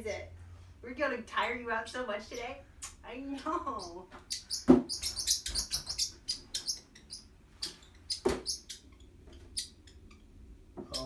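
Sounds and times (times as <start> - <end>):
pet bird chirping: 1.3 - 11.0.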